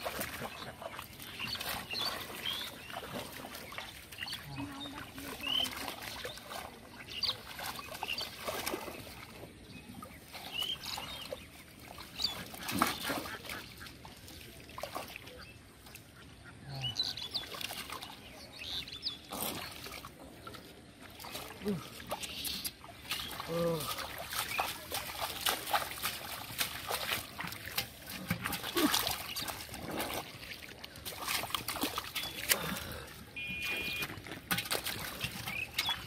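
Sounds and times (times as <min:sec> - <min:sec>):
splashing in shallow water: 0:00.0 - 0:36.0.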